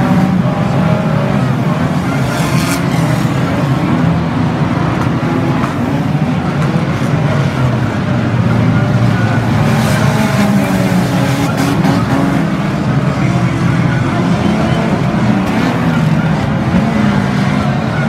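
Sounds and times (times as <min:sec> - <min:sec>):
racing car engines running hard: 0:00.0 - 0:18.0.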